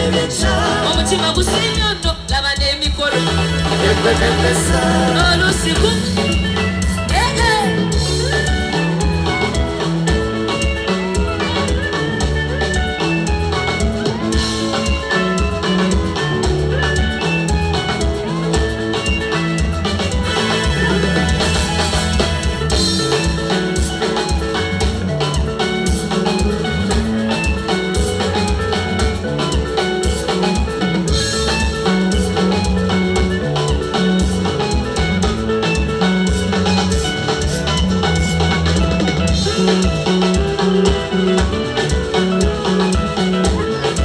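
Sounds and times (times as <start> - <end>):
drum kit steady beat: 0.0 - 44.0
live band playing dance music: 0.0 - 44.0.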